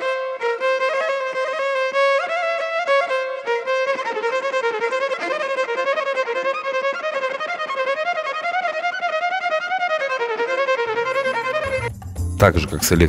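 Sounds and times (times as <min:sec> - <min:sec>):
solo violin melody: 0:00.0 - 0:12.0.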